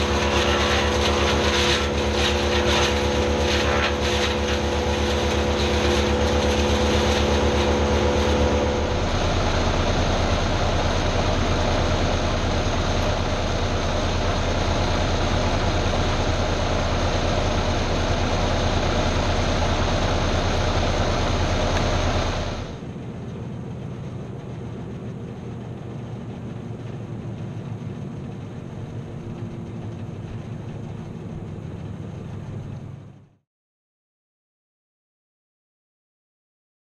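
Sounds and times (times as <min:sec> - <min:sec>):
engine-driven machinery running: 0:00.0 - 0:33.4.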